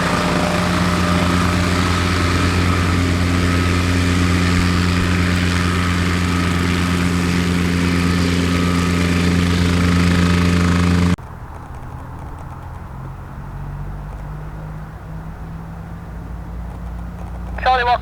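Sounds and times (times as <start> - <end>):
aircraft engine running: 0.0 - 18.0
outdoor background noise: 0.0 - 18.0.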